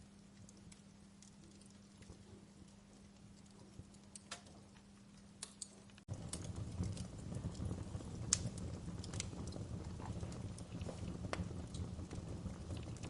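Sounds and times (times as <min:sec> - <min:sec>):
low rumble of flames: 0:00.0 - 0:13.0
wood fire crackling: 0:00.0 - 0:13.0.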